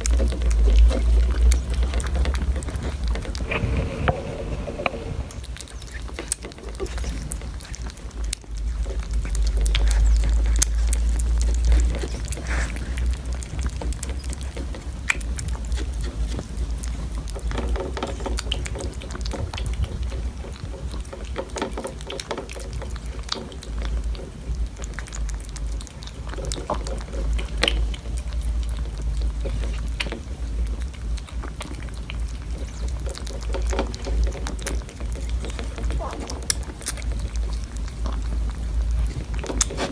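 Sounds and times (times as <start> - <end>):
kittens lapping and chewing: 0.0 - 39.9
low steady rumble: 0.0 - 39.9.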